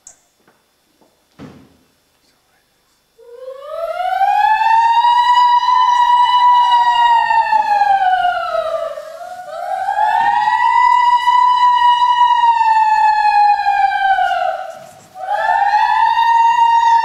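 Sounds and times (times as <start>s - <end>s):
wailing siren over sound system: 3.2s - 17.0s.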